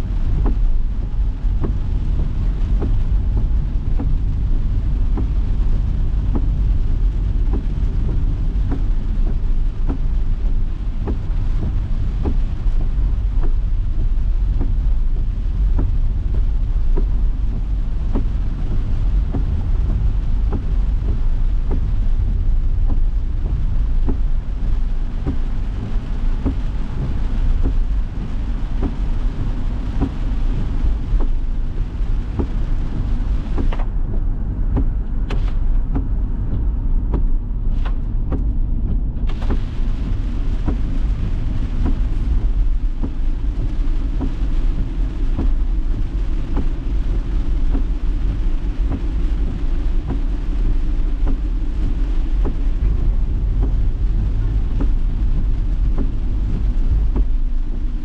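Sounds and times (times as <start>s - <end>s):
heavy rain on car windshield: 0.0s - 58.0s
low road rumble: 0.0s - 58.0s.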